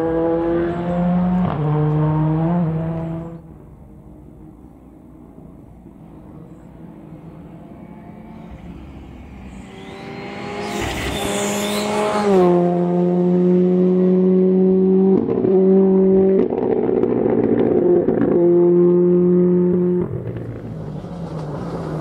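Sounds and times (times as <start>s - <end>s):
rally car engine passing at speed: 0.0s - 3.6s, 6.0s - 22.0s.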